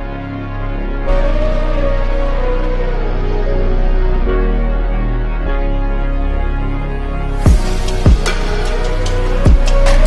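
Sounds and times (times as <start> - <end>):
music with heavy bass and chords: 0.0 - 10.0.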